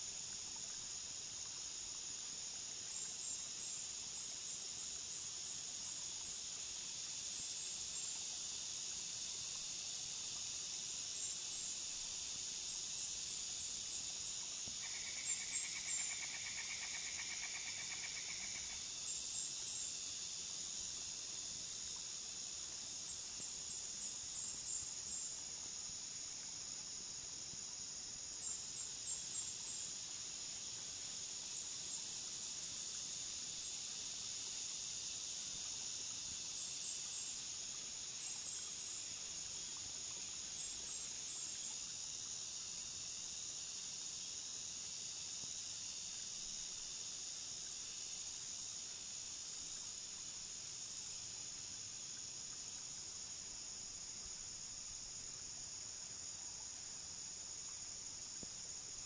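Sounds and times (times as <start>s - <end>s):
crickets and cicadas chorus: 0.0s - 59.0s
pulsing high insect call: 0.0s - 59.0s.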